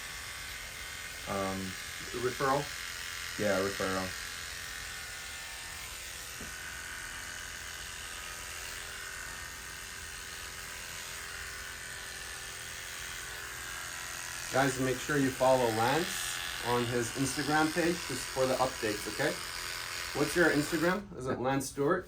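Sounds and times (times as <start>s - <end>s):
electric hair clipper running: 0.0s - 21.0s.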